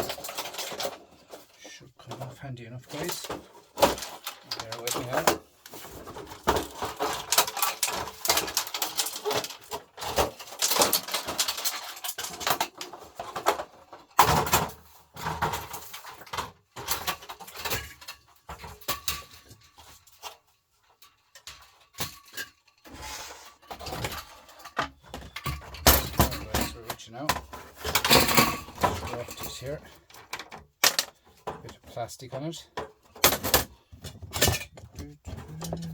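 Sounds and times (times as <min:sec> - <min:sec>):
metal clattering and scraping: 0:00.0 - 0:35.9.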